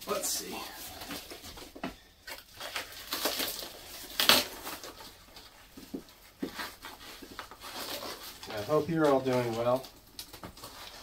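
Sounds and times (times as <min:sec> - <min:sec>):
plastic wrap crinkling: 0:00.1 - 0:11.0
plastic ripping: 0:00.8 - 0:05.9, 0:06.5 - 0:11.0.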